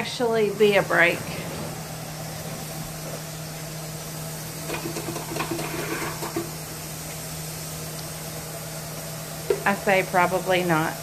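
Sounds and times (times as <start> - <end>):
constant hiss: 0.0 - 11.0
steady low hum: 0.0 - 11.0.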